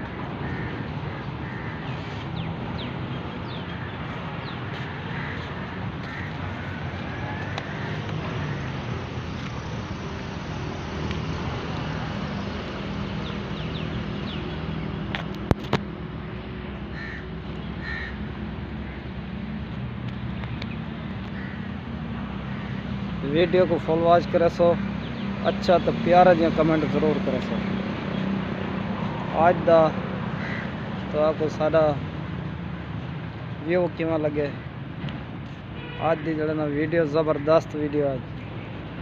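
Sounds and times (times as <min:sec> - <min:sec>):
birds chirping: 0:00.0 - 0:32.0
outdoor background rumble: 0:00.0 - 0:36.0.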